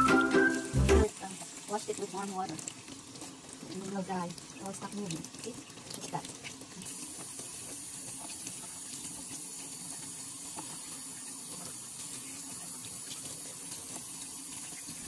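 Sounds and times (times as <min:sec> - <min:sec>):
faucet running into metal sink: 0:00.0 - 0:15.0.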